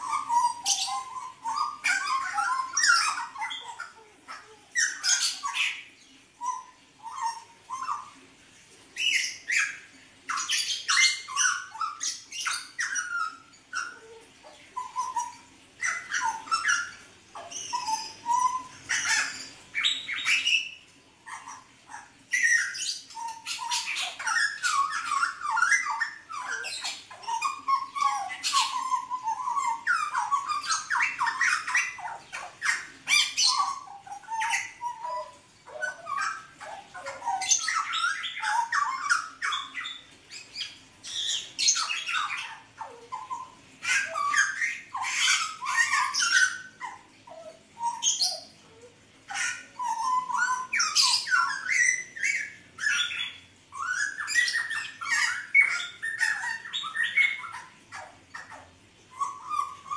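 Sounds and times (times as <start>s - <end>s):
caged bird singing varied song: 0.0s - 59.9s.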